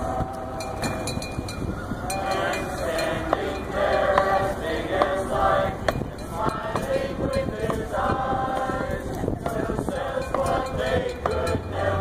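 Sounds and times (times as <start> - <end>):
group singing mournful song: 0.0 - 1.2, 2.0 - 12.0.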